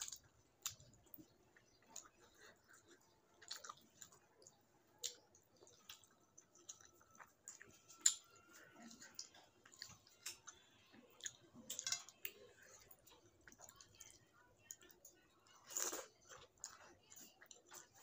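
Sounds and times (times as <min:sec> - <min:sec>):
chewing: 0:00.0 - 0:18.0
fingers squishing food: 0:00.0 - 0:18.0.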